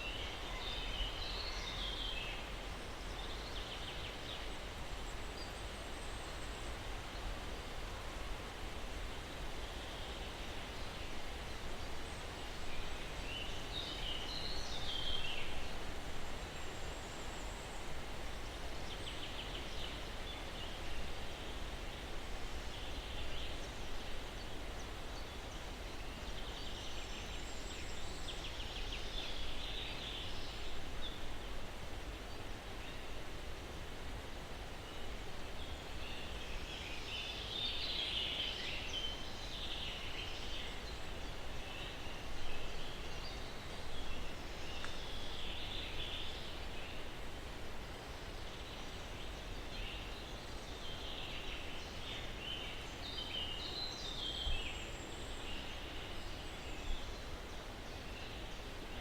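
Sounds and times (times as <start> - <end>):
breeze rustling pine trees: 0.0 - 59.0.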